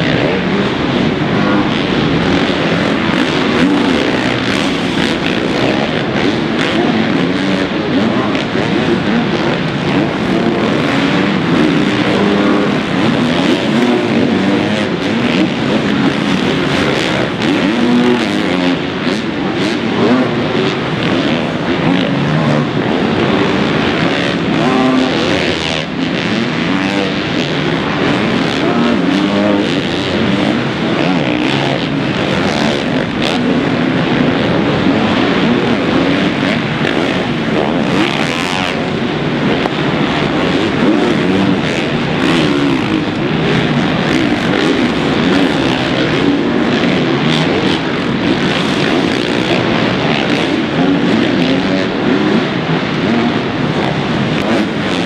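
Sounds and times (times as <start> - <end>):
motorbike engines revving: 0.0 - 55.0.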